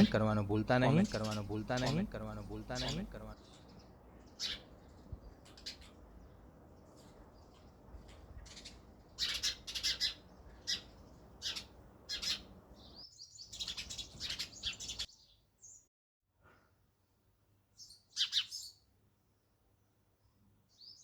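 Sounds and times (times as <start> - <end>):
sparrows chirping: 0.0 - 15.9, 17.7 - 19.0, 20.2 - 21.0.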